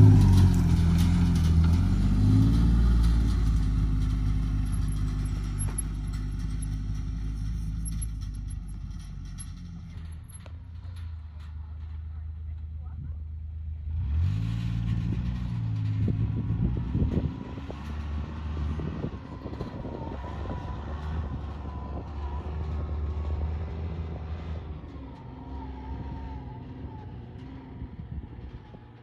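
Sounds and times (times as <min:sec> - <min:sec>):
utility vehicle engine revving: 0:00.0 - 0:12.2, 0:13.7 - 0:29.0.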